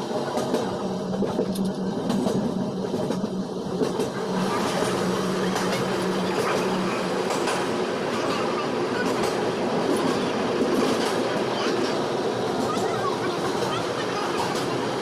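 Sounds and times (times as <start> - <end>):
train rumble: 0.0 - 15.0
wheels clicking over rails: 0.0 - 15.0.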